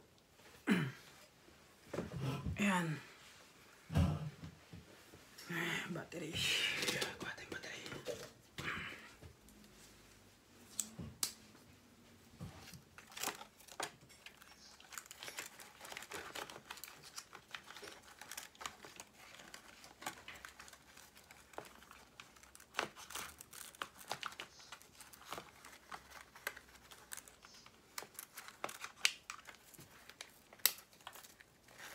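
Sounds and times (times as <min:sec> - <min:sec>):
crinkling and rustling: 0:06.2 - 0:31.9.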